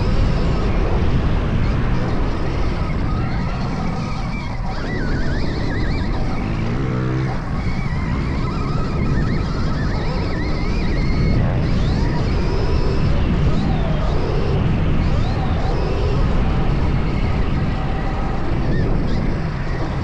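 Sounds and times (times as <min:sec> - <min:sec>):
electric motor whine: 0:00.0 - 0:20.0
low-pitched drone: 0:00.0 - 0:20.0
wind rush on microphone: 0:00.0 - 0:20.0.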